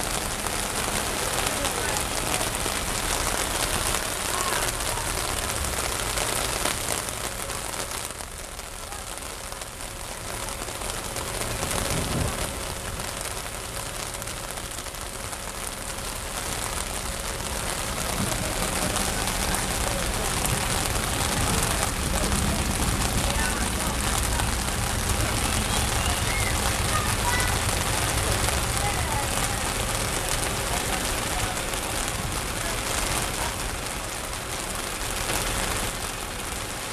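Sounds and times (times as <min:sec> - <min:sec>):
heavy rain pouring: 0:00.0 - 0:36.9
tractor engines running: 0:00.0 - 0:36.9.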